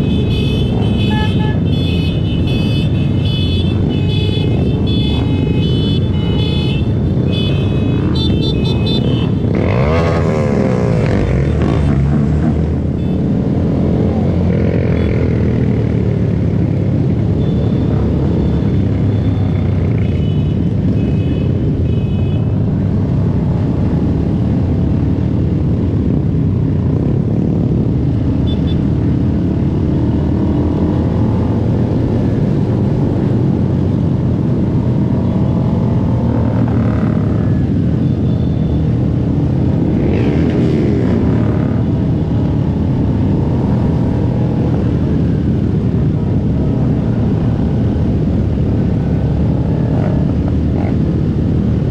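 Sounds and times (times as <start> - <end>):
motorcycle engines accelerating: 0.0 - 51.9.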